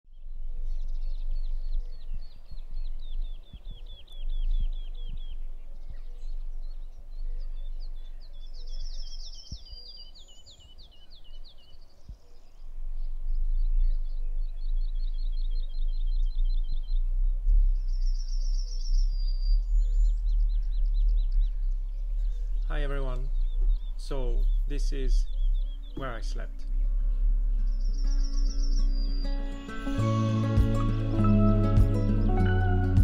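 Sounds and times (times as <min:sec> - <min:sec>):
songbirds chirping: 0:00.0 - 0:33.0
wind rumble on microphone: 0:00.1 - 0:29.3.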